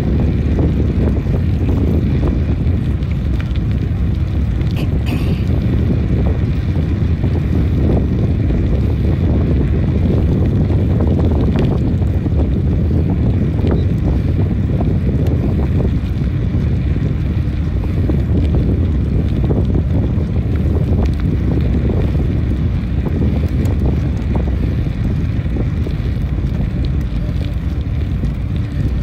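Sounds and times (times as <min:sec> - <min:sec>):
bicycle tyres rolling on asphalt: 0:00.0 - 0:29.0
wind rumble on microphone: 0:00.0 - 0:29.0.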